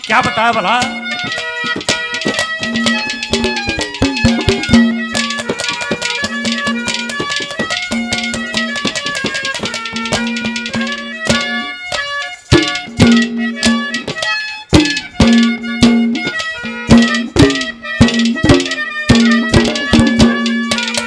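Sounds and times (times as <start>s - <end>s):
fast hand drum strokes: 0.0s - 21.0s
melody instrument long held notes: 0.0s - 21.0s.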